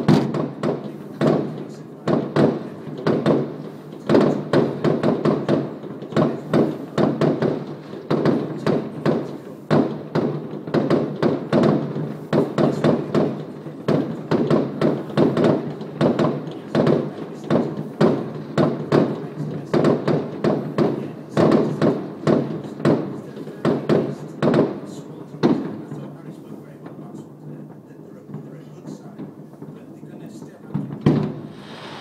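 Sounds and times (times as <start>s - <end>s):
fireworks bangs and booms: 0.0s - 32.0s.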